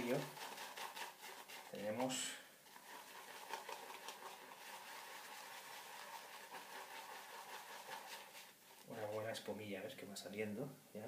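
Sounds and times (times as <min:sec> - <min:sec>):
shaving brush scrubbing soap: 0:00.0 - 0:09.2.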